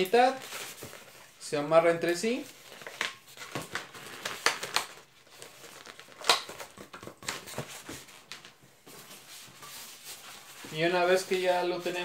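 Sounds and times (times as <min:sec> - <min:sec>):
balloons rubbing and crinkling: 0:02.2 - 0:12.0.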